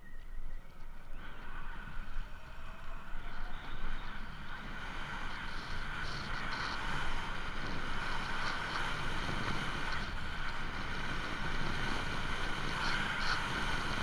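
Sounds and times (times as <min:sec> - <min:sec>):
road and drive noise: 0:00.0 - 0:14.0
steady mid-pitched drone: 0:00.0 - 0:14.0
wind rushing over microphone: 0:00.8 - 0:14.0.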